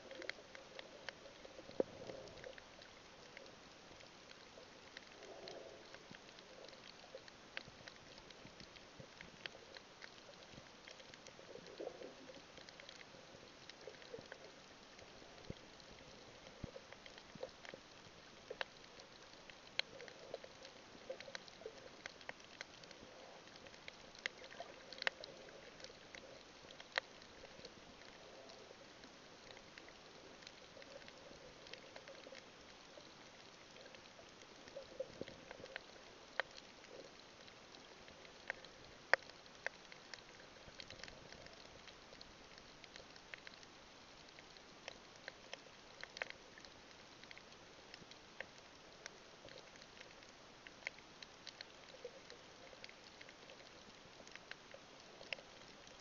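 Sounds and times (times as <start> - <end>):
low underwater hiss: 0.0 - 56.0
underwater clicks: 0.0 - 56.0.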